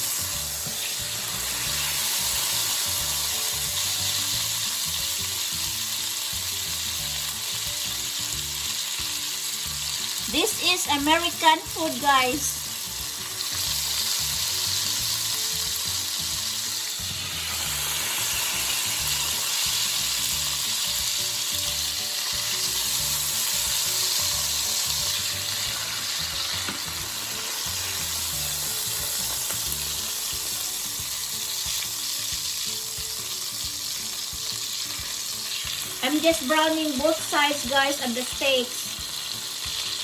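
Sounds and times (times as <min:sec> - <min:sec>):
steaks sizzling in a frying pan: 0:00.0 - 0:40.0.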